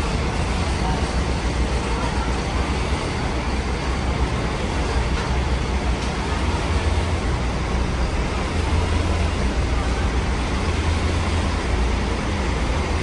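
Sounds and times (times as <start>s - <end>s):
bus terminal noise: 0.0s - 13.0s
diesel coach engine idling: 0.0s - 13.0s.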